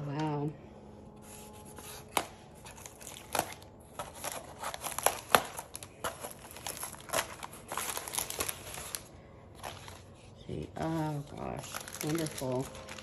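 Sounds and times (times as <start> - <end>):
paper and packaging rustling: 1.1 - 13.0.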